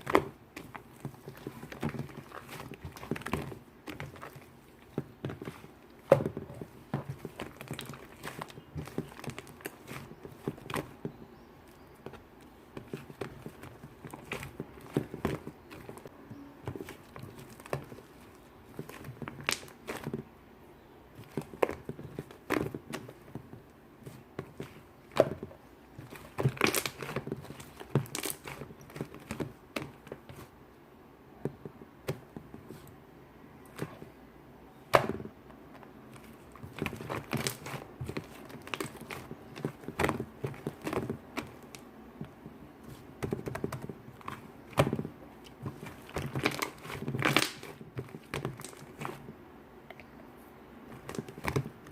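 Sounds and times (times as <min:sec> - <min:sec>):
shaving foam squishing: 0:00.0 - 0:20.3, 0:21.2 - 0:30.5, 0:36.1 - 0:49.3.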